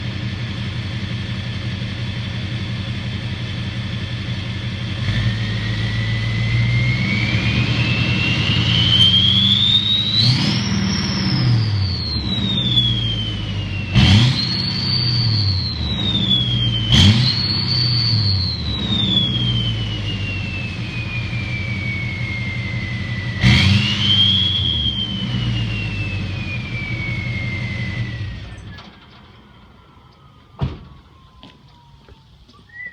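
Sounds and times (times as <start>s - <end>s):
diesel engine idling and revving: 0.0s - 32.9s
turbo whistle: 5.1s - 32.9s.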